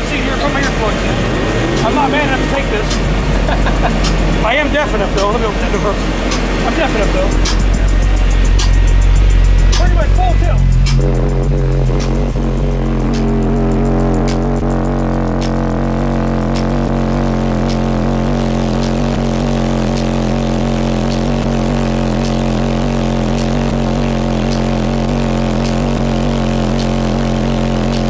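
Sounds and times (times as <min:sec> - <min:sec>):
subwoofer bass drone: 0:00.0 - 0:28.0.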